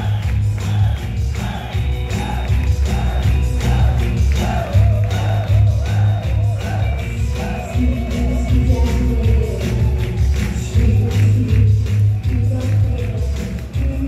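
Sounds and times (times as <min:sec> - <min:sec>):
pop band with heavy bass beat: 0:00.0 - 0:14.0.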